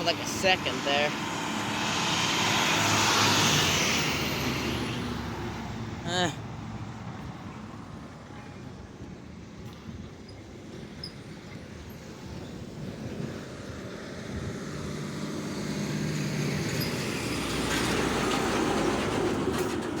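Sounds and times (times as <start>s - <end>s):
heavy vehicle engine hum: 0.0s - 20.0s.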